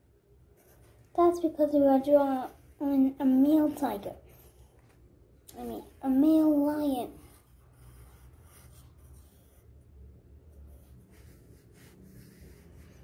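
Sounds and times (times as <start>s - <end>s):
pencil scratching on paper: 0.5s - 4.9s, 5.6s - 13.0s.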